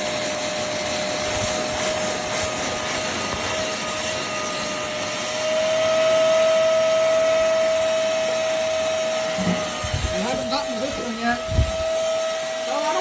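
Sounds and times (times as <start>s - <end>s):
suction motor whine: 0.0s - 13.0s.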